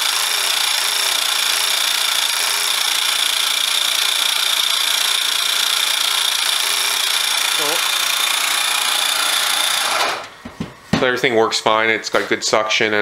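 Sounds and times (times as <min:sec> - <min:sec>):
small air compressor running: 0:00.0 - 0:10.5.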